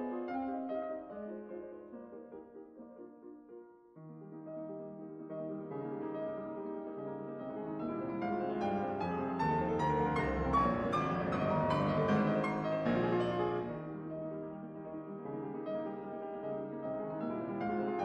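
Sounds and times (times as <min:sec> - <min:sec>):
background piano music: 0:00.0 - 0:18.0.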